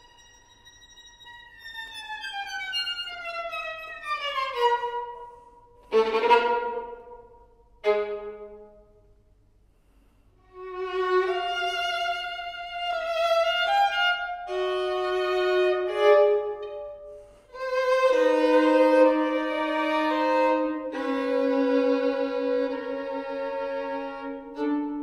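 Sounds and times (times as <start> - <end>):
solo violin: 0.0 - 9.0, 10.4 - 25.0.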